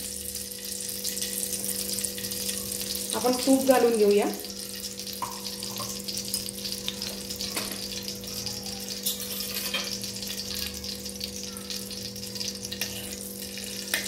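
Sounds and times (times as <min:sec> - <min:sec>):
ghee sizzling in a pan: 0:00.0 - 0:14.0.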